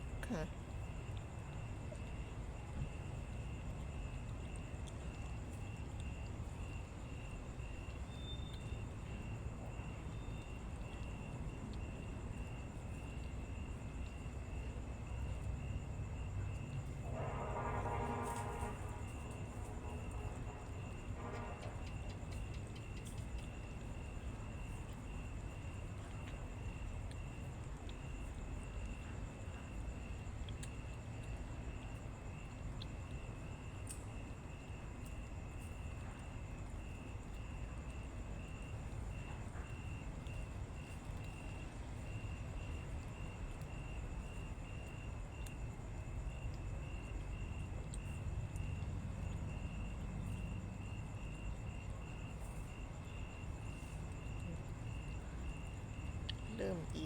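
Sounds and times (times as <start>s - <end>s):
insects trilling: 0.0s - 57.0s
low background rumble: 0.0s - 57.0s.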